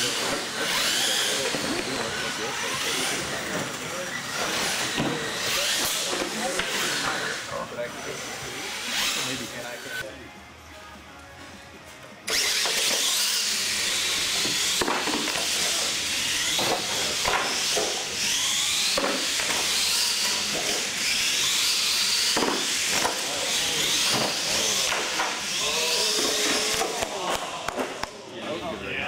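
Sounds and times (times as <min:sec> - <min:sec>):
toy truck motor whining: 0:00.0 - 0:10.1, 0:12.2 - 0:27.4.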